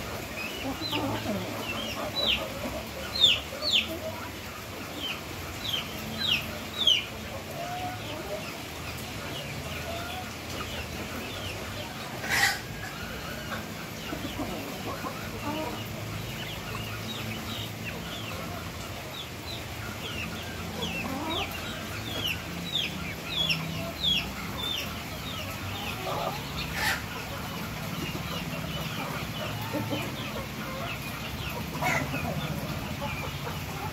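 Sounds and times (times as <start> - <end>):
chickens calling: 0.0 - 33.9.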